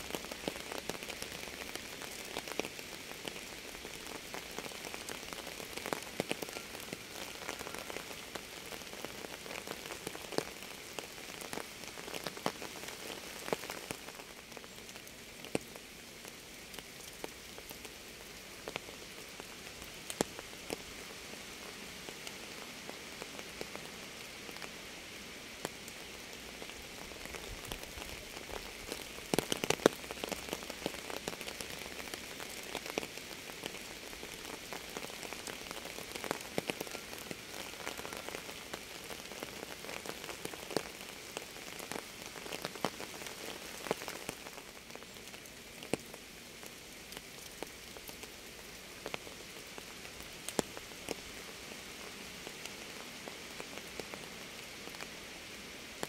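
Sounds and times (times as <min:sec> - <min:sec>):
rain falling steadily: 0:00.0 - 0:56.0.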